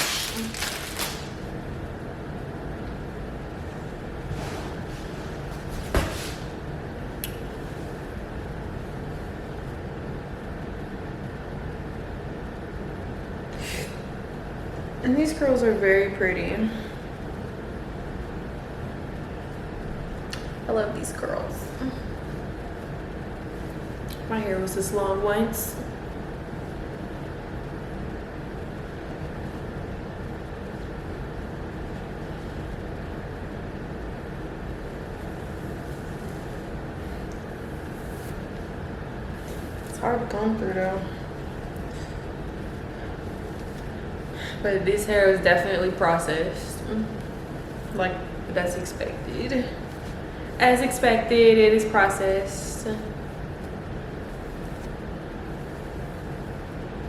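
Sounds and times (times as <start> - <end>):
low hum: 0.0 - 57.0
low room noise rumble: 0.0 - 57.0.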